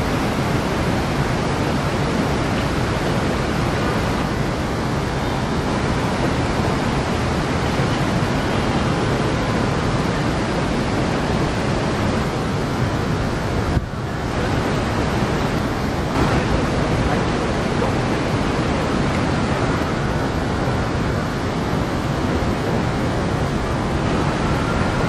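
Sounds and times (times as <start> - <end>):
city street roar: 0.0 - 25.0.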